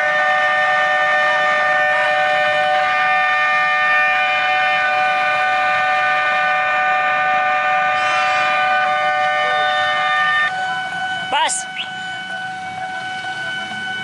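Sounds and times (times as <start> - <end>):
level crossing warning alarm: 0.0 - 14.0.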